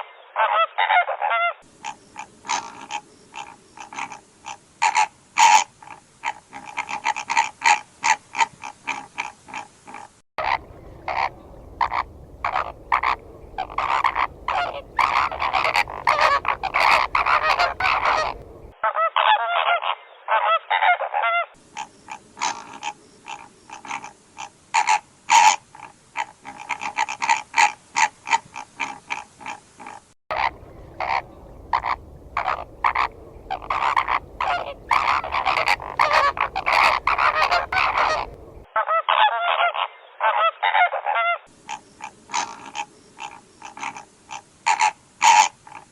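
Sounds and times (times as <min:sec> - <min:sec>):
flamingos honking: 0:00.4 - 0:45.9.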